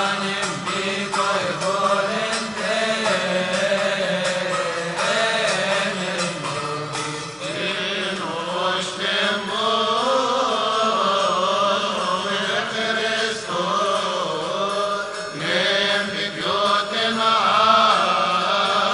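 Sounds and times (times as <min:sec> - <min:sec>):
men's voices chanting a hymn: 0:00.0 - 0:18.9.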